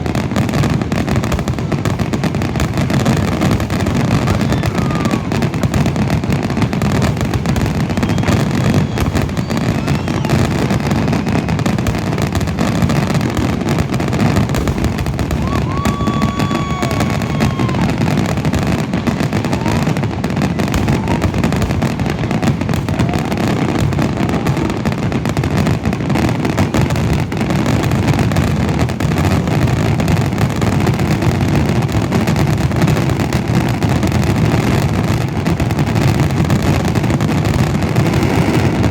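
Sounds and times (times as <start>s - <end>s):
fireworks booming and crackling: 0.0s - 38.9s
fireworks whistling: 0.0s - 38.9s.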